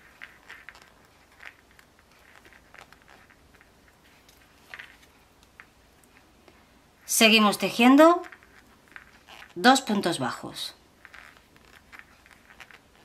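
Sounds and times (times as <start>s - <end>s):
crochet hook ticks and rustles: 0.0s - 10.2s, 10.9s - 13.0s.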